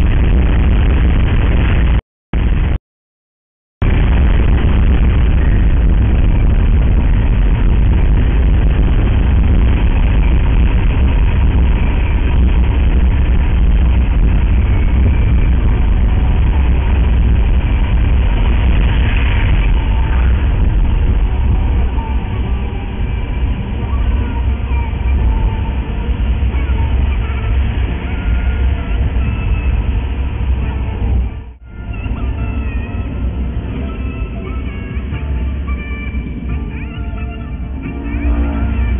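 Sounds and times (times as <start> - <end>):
car driving rumble from inside: 3.8 - 38.9.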